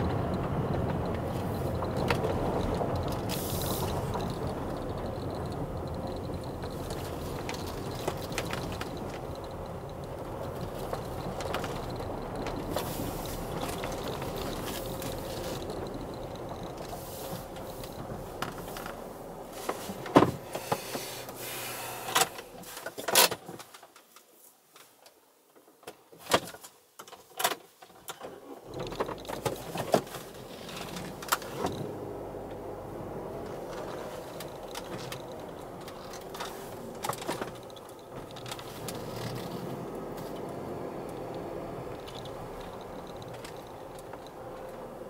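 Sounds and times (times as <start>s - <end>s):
sharp clicks and knocks: 0.0s - 19.0s, 27.0s - 32.7s, 33.3s - 45.0s
car cabin running noise: 0.0s - 22.6s, 28.6s - 45.0s.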